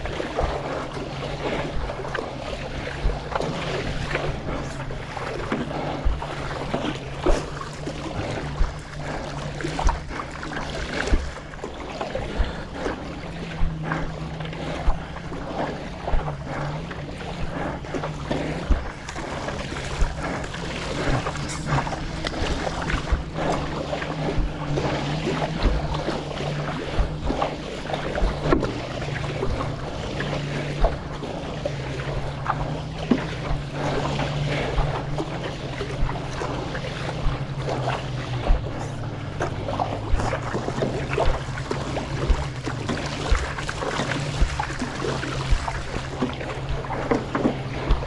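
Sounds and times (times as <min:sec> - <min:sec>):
steady low hum: 0:00.0 - 0:48.0
water splashing around paddleboard: 0:00.0 - 0:48.0.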